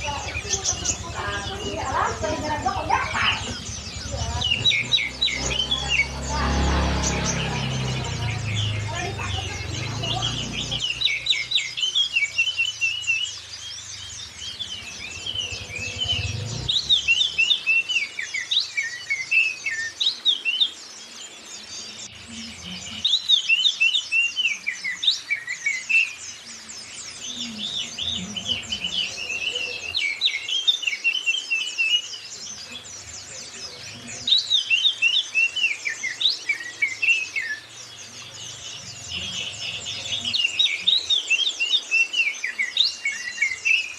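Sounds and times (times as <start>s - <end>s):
songbird twittering and whistling: 0.0s - 43.9s.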